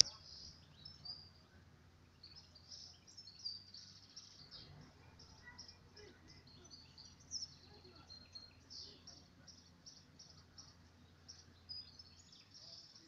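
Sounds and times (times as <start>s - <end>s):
faint birds chirping: 0.0s - 13.0s
low steady hum: 0.0s - 13.0s.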